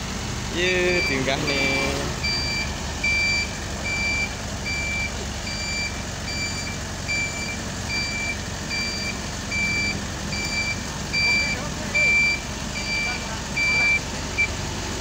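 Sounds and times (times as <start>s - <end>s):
harvester engine running: 0.0s - 15.0s
reversing alarm beeping: 0.8s - 14.6s.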